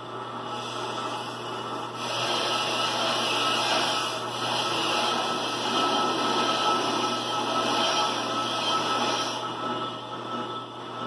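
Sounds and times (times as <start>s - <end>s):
brake lathe whirring: 0.4s - 11.0s.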